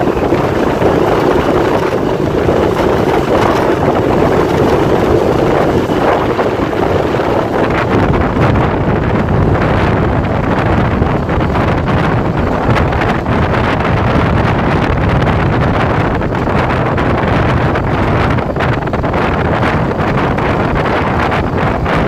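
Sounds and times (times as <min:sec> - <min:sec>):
motorbike engine: 0:00.0 - 0:22.0
road noise: 0:00.0 - 0:22.0
wind rushing over microphone: 0:00.0 - 0:22.0.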